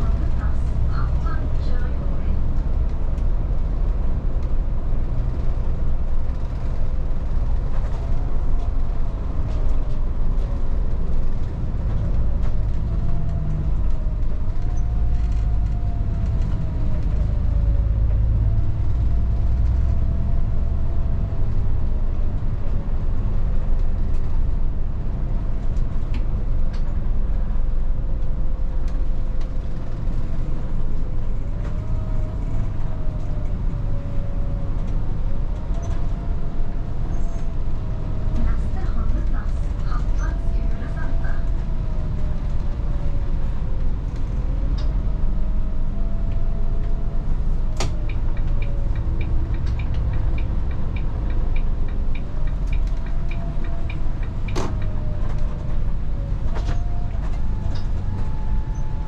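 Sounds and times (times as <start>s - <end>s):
bus drivetrain rumble: 0.0s - 59.0s
faint engine whine: 0.0s - 59.0s.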